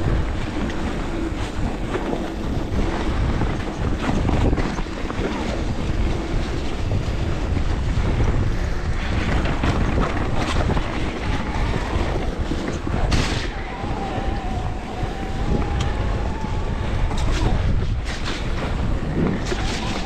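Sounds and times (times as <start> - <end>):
bike rattles and knocks: 0.0 - 20.0
bike tyre noise: 0.0 - 20.0
wind buffeting microphone: 0.0 - 20.0.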